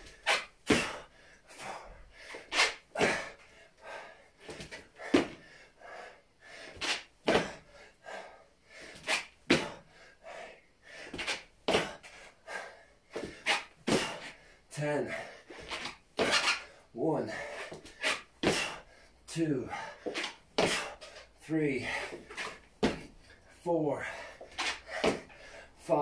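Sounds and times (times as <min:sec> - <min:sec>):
man breathing hard: 0:00.0 - 0:26.0.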